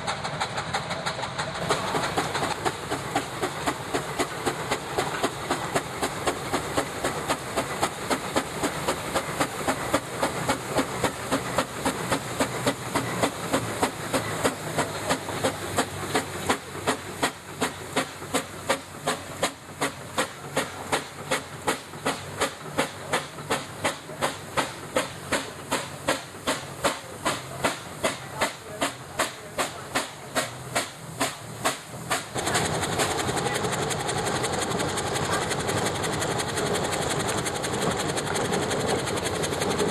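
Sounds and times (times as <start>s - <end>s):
steam engine exhaust chuffing: 0.0s - 39.9s
steam hiss: 0.0s - 39.9s.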